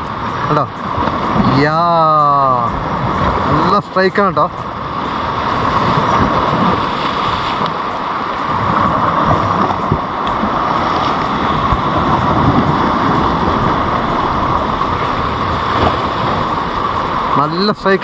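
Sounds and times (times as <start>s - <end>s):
breaking surf: 0.0s - 18.0s
wind buffeting microphone: 0.0s - 18.0s.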